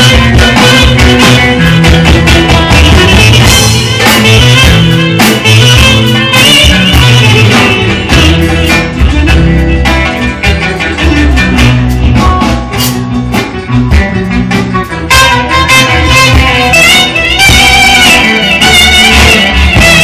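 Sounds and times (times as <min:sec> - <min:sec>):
electric guitar: 0:00.0 - 0:20.0
live folk band through pa: 0:00.0 - 0:20.0.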